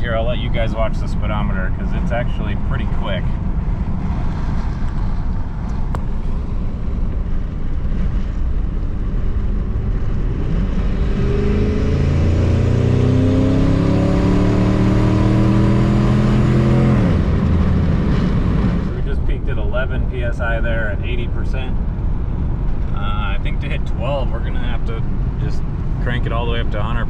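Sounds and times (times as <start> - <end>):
road rumble: 0.0 - 27.0
truck engine accelerating: 0.0 - 27.0.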